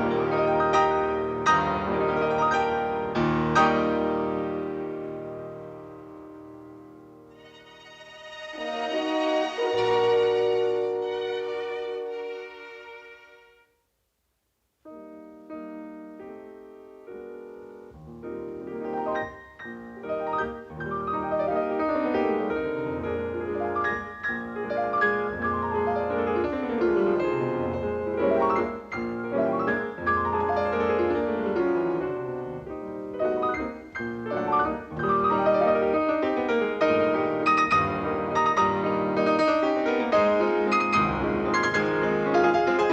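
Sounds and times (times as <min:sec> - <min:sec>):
lively classical piano passage: 0:00.0 - 0:07.8, 0:08.5 - 0:12.5, 0:14.9 - 0:42.9
quiet held piano chords: 0:00.0 - 0:13.1, 0:14.8 - 0:42.9.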